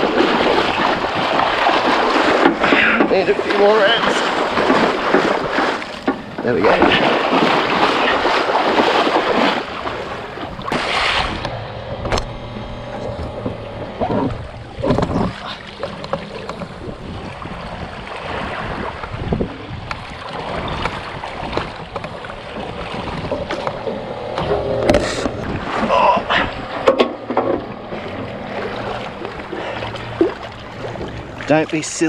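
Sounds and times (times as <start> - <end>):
fish thrashing and water splashing: 0.0 - 32.0
water sloshing along hull: 0.0 - 32.0.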